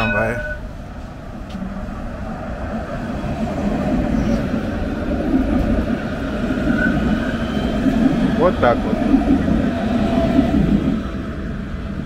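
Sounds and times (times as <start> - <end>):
tram passing: 0.0 - 12.0.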